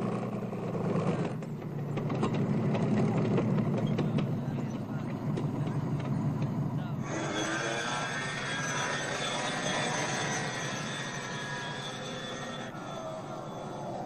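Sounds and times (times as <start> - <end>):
faint engine whine: 0.0 - 14.0
tank diesel engine running: 0.0 - 14.0.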